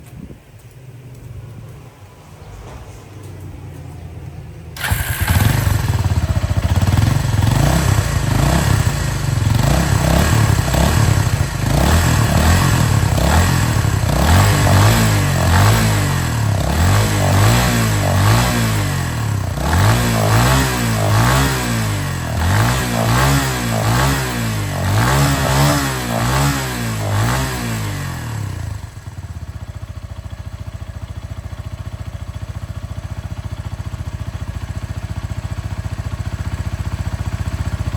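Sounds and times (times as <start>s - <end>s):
motorcycle engine revving: 2.3s - 37.9s.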